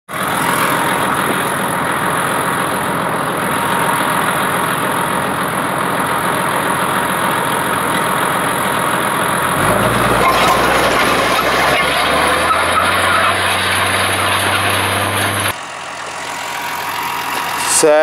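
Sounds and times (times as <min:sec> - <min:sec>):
disc harrow churning soil: 0:00.1 - 0:18.0
tractor diesel engine under load: 0:00.1 - 0:18.0.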